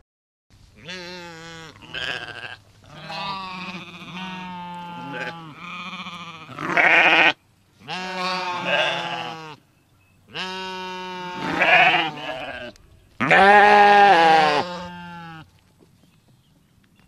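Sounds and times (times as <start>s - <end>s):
livestock bleating: 0.8s - 9.6s, 10.3s - 15.5s.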